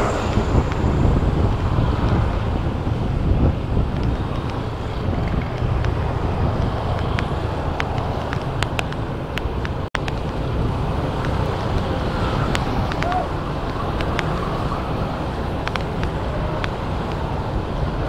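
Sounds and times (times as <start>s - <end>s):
vehicle engine and road noise: 0.0s - 18.0s
wind on microphone: 0.0s - 18.0s.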